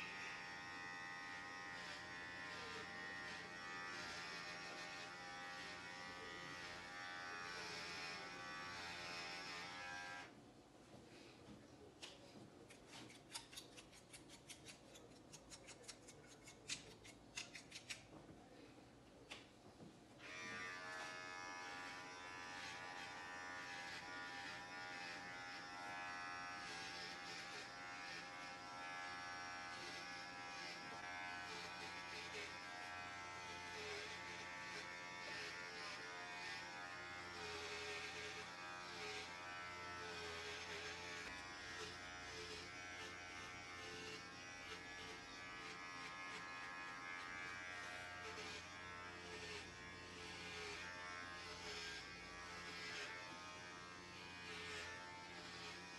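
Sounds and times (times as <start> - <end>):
electric hair clippers buzzing: 0.0 - 10.3, 20.2 - 55.9.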